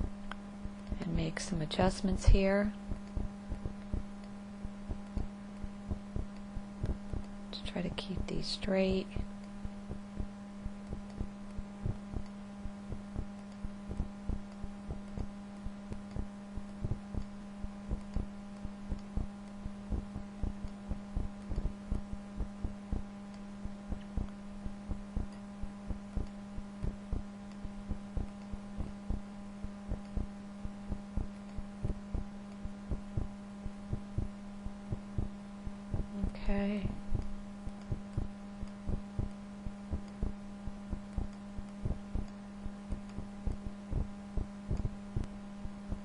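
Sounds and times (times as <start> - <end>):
steady electrical hum: 0.0 - 46.0.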